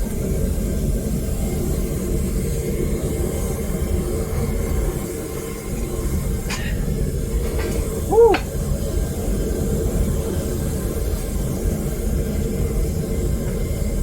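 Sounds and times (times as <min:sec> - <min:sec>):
propane burner roaring: 0:00.0 - 0:14.0.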